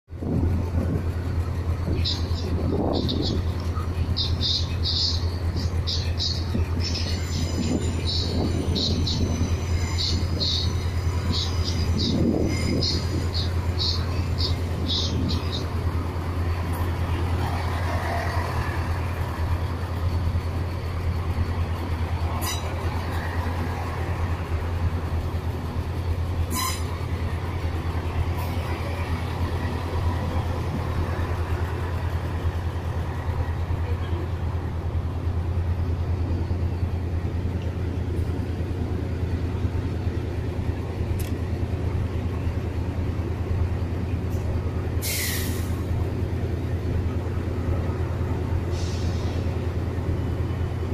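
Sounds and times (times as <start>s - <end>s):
diesel train engine droning: 0.1s - 50.9s.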